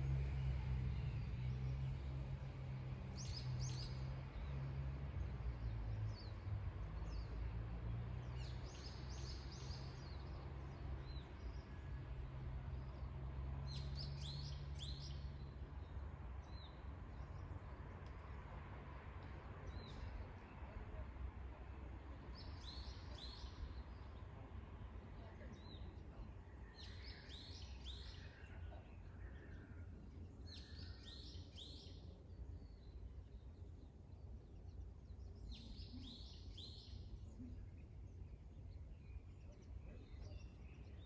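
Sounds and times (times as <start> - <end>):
songbirds singing: 0.0 - 41.0.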